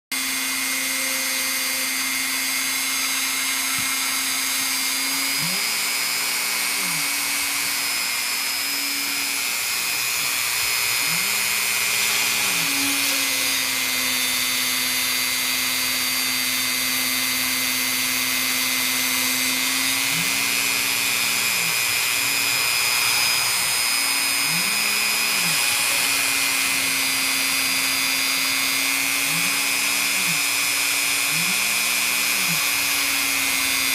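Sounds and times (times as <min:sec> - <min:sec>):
small motor running: 0:00.1 - 0:33.9.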